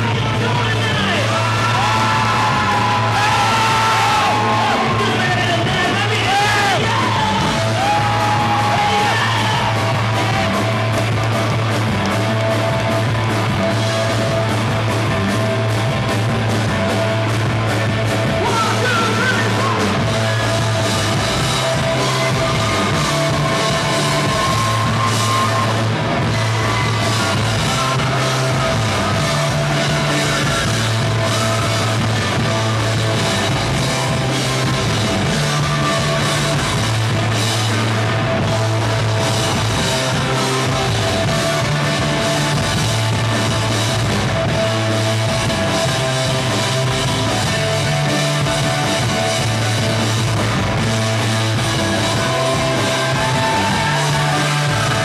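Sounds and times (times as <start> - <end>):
bass line: 0.0 - 55.0
drum kit: 0.0 - 55.0
electric guitars: 0.0 - 55.0.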